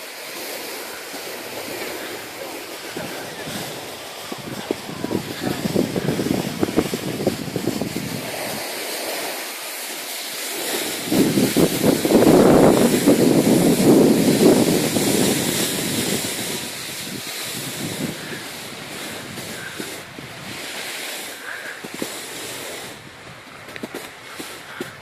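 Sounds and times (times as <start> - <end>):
crunching scrape on snow: 0.0 - 25.0
wind buffeting microphone: 0.9 - 8.7, 10.9 - 25.0.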